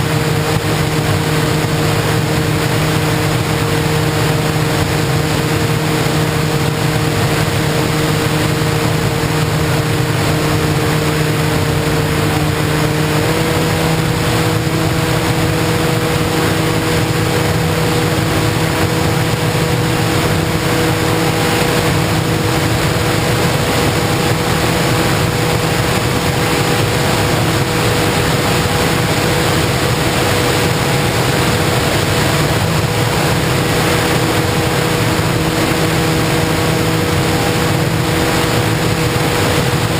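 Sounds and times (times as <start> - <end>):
heavy wind rush: 0.0 - 39.9
model plane motor and propeller: 0.0 - 39.9.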